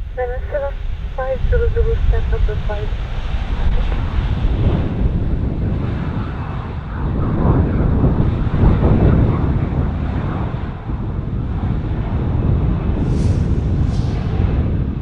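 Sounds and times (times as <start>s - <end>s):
jet airliner engines rumbling: 0.0s - 15.0s
storm wind buffeting microphone: 0.0s - 15.0s.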